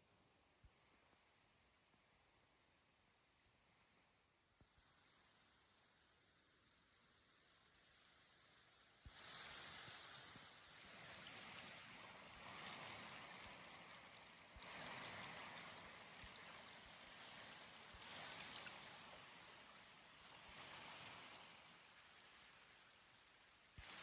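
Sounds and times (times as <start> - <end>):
faint river flowing: 0.0 - 24.0.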